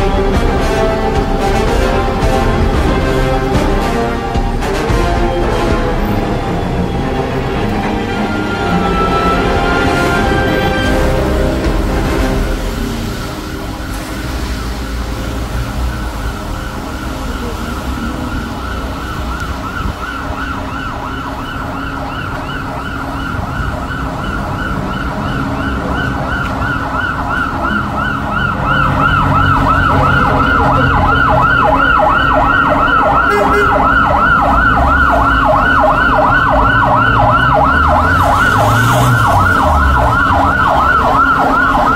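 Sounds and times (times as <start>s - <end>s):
emergency siren yelping: 0.0s - 41.9s.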